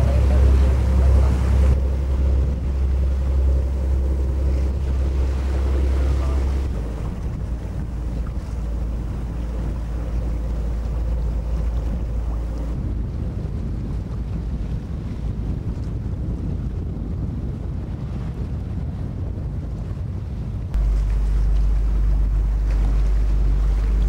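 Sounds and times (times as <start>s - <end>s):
sea wash: 0.0s - 24.0s
wind rumbling on microphone: 0.0s - 24.0s.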